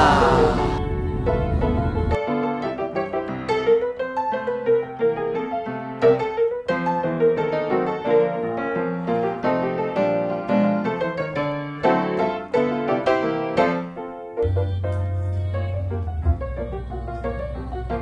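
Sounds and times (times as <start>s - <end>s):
light piano melody: 0.0s - 18.0s.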